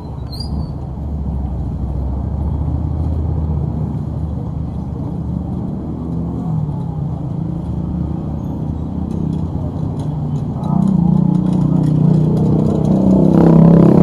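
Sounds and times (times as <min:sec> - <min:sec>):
cars and motorbikes passing: 0:00.0 - 0:14.0
vehicle engine hum: 0:00.0 - 0:14.0.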